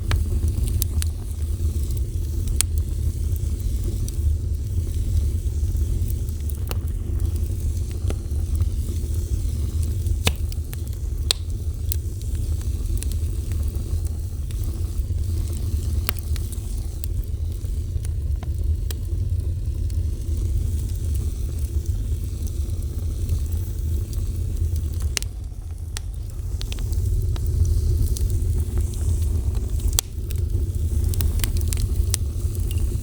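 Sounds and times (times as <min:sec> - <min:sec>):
fire burning rumble: 0:00.0 - 0:33.0
fire crackling pops: 0:00.0 - 0:33.0.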